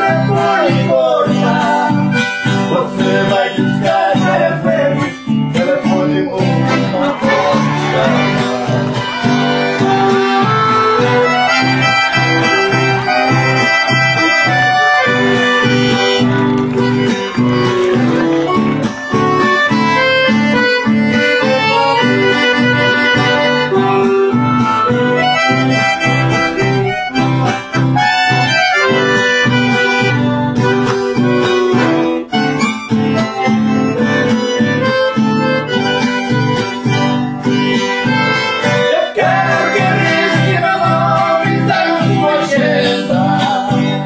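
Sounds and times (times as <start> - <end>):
accordion melody: 0.0 - 44.0
acoustic guitar: 0.0 - 44.0.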